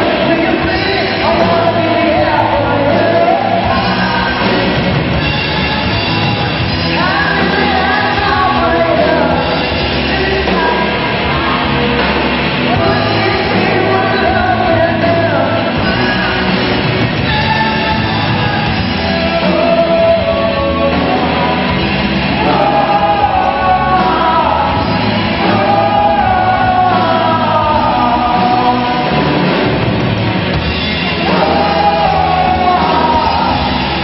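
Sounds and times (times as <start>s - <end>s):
voices singing together: 0.0s - 29.8s, 30.7s - 34.0s
live rock band playing: 0.0s - 34.0s.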